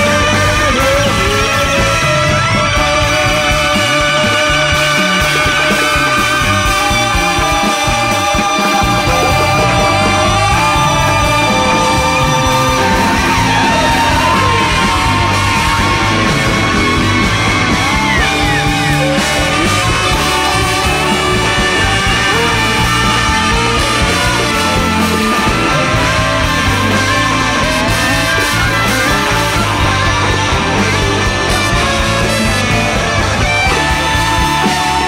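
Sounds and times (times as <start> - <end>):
free jazz big band playing: 0.0 - 35.0
person singing: 0.0 - 35.0.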